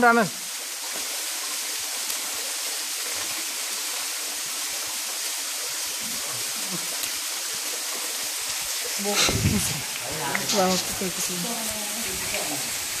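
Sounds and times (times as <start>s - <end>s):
stream water running over rocks: 0.0s - 13.0s.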